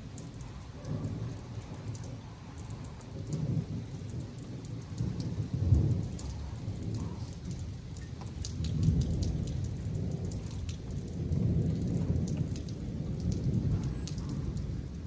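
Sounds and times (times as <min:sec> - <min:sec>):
raindrops ticking: 0:00.0 - 0:15.0
thunder rumbling: 0:00.9 - 0:15.0.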